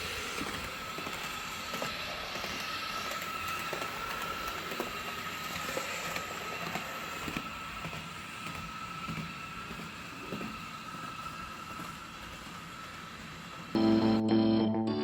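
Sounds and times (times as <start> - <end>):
model train whine: 0.0 - 15.0.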